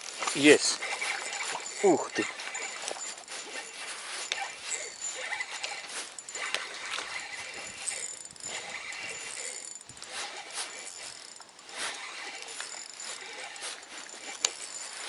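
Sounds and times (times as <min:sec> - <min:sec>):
fishing reel whirring and ticking: 0:00.0 - 0:15.0.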